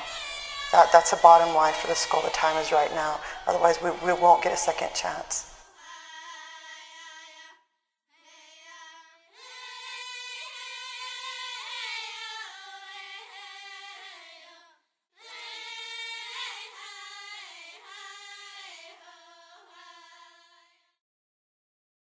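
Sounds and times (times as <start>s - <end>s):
group of students singing: 0.0s - 7.5s, 8.3s - 20.8s.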